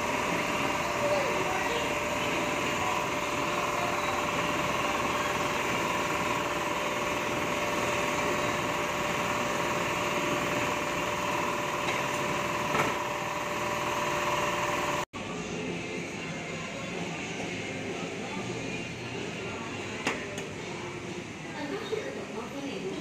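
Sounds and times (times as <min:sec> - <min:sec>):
workshop machinery hum: 0:00.0 - 0:23.0.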